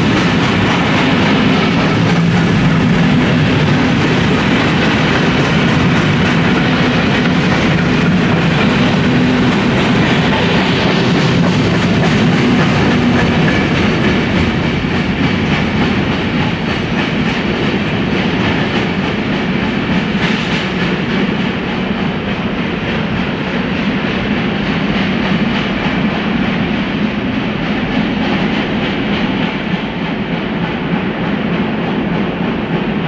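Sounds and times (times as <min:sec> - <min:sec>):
freight train rolling on rails: 0:00.0 - 0:33.0.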